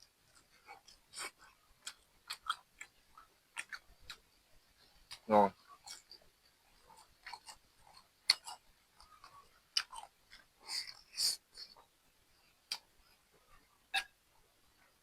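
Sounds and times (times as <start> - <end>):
person chewing crunchy food: 0.2 - 4.2, 4.8 - 14.1.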